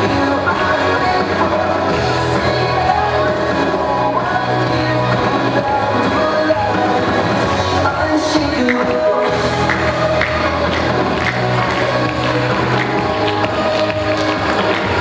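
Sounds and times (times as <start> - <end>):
pop song with vocals: 0.0 - 15.0.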